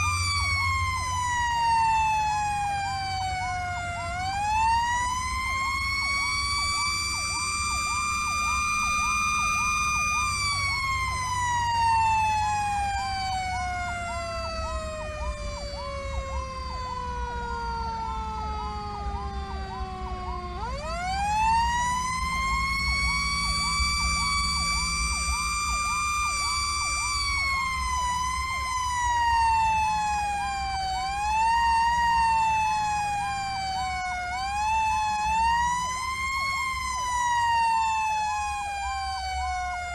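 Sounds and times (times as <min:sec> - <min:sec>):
diesel engine rumble: 0:00.0 - 0:39.9
electronic siren yelping: 0:00.0 - 0:39.9
mechanical siren wailing: 0:00.0 - 0:39.9.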